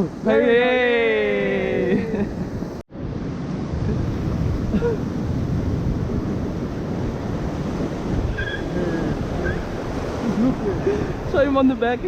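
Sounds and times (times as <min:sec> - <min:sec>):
ocean surf on rocks: 0:00.0 - 0:12.0
wind buffeting microphone: 0:01.2 - 0:12.0.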